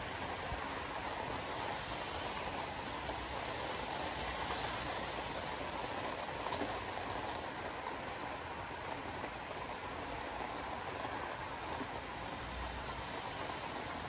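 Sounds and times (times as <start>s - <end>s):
rain on windshield: 0.0s - 14.0s
tyres hissing on wet road: 0.0s - 14.0s.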